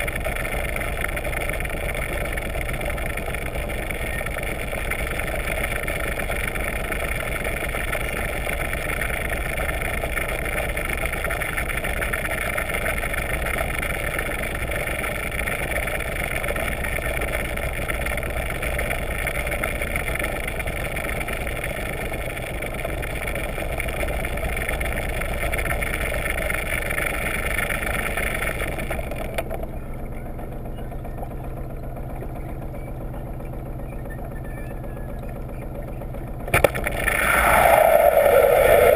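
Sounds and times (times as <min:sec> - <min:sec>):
underwater engine and propeller hum: 0:00.0 - 0:38.9.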